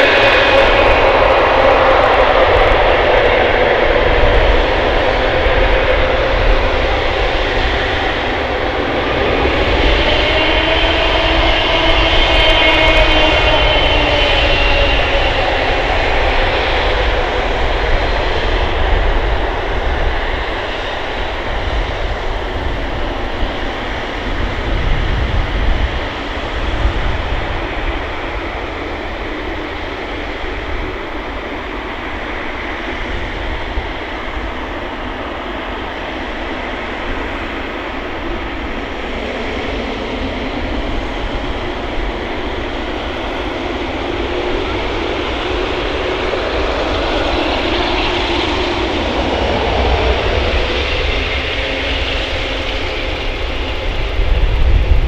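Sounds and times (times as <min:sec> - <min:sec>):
jet engines of passing airliner: 0:00.0 - 0:55.0.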